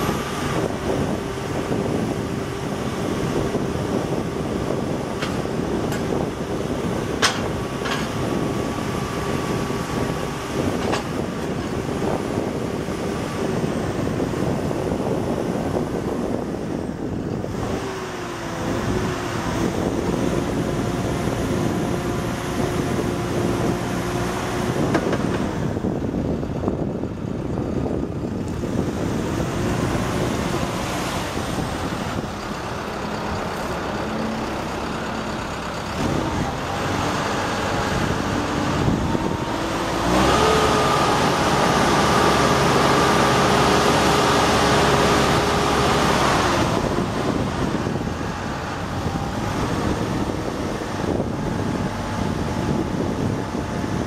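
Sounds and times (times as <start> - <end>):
diesel engine running: 0.0 - 54.0
hydraulic whine: 0.0 - 54.0.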